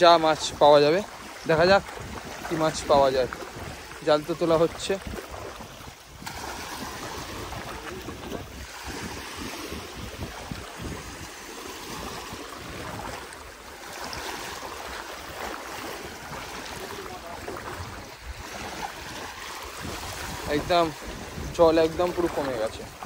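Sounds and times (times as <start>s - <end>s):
small waves washing in: 0.0s - 23.0s
water splashing around legs: 0.0s - 23.0s
wind: 0.0s - 23.0s.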